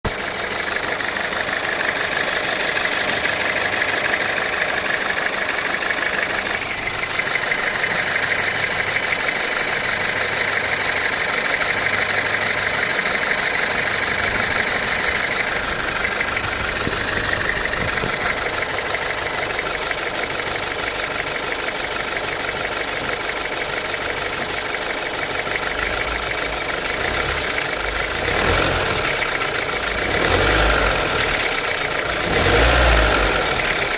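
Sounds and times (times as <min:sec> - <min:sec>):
car engine idling: 0:00.0 - 0:33.9
rapid engine ticking: 0:00.0 - 0:33.9.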